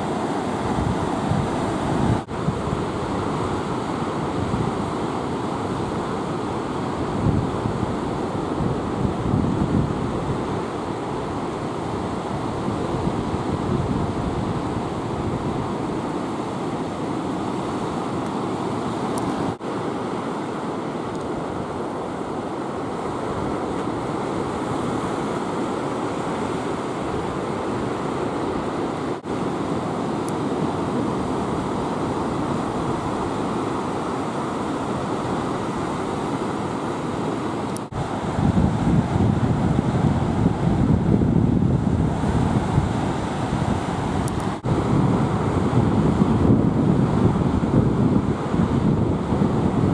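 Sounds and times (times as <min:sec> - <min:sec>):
wind buffeting microphone: 0:00.0 - 0:19.6, 0:21.2 - 0:49.9
ocean surf breaking: 0:00.0 - 0:49.9.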